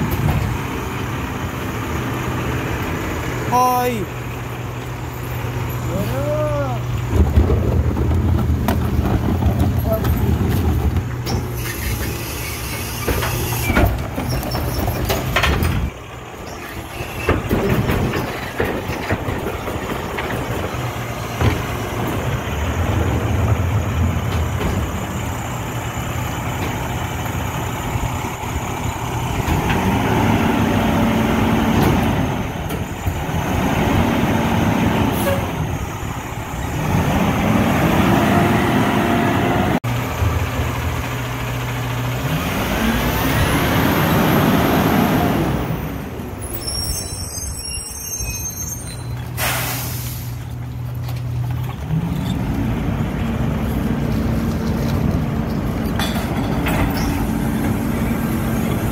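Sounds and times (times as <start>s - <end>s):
garbage truck diesel engine: 0.0s - 58.9s.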